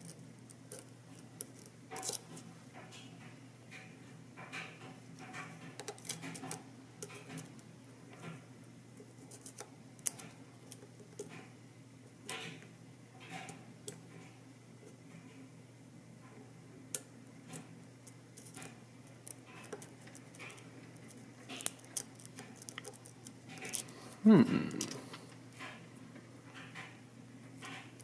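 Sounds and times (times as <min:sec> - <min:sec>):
faint low hum: 0:05.1 - 0:28.0.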